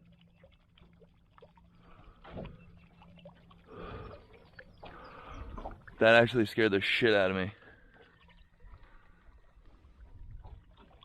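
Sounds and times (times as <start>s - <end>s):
soft splashing: 0.0s - 11.0s
water sloshing around boat hull: 0.0s - 11.0s.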